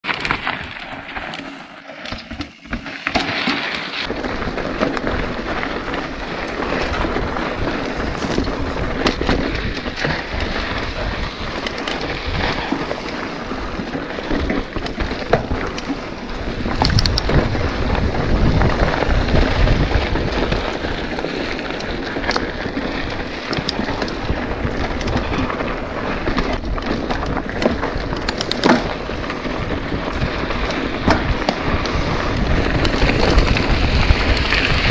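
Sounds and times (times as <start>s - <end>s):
bike rattling: 0.0s - 34.9s
tyres crunching on gravel: 0.0s - 34.9s.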